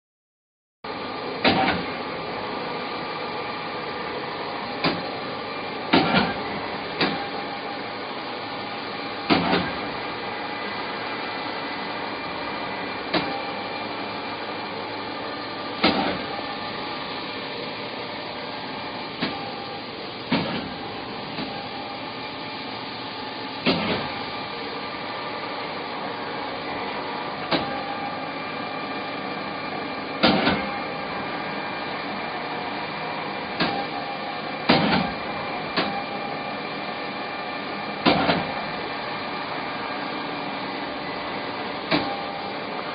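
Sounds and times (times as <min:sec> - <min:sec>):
lathe machine hum: 0:00.9 - 0:42.9.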